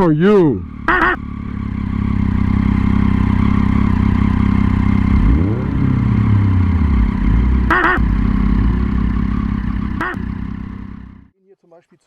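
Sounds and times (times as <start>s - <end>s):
motorcycle engine idling: 0.0s - 11.3s
motorcycle throttle blips: 0.6s - 11.3s.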